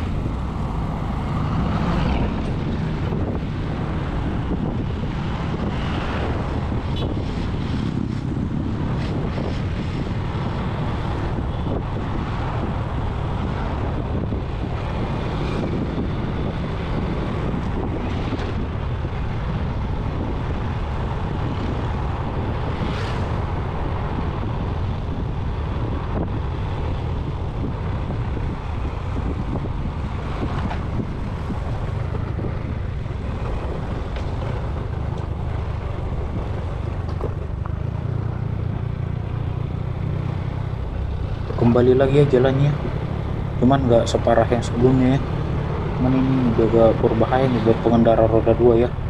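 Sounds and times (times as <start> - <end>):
vehicle rumble: 0.0 - 49.0
wind buffeting microphone: 0.0 - 49.0.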